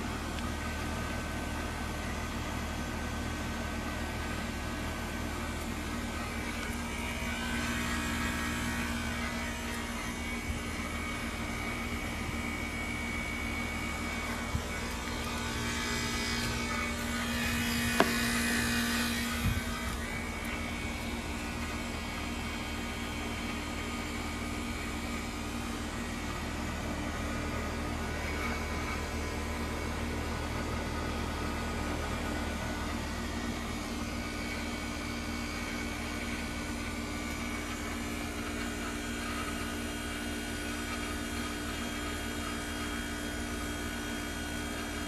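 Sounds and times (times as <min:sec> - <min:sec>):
heat pump humming: 0:00.0 - 0:45.0.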